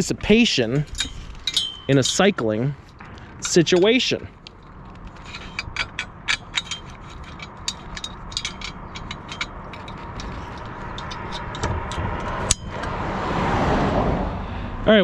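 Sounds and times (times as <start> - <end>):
metal clicks and ratchet rattles: 0.0 - 13.0.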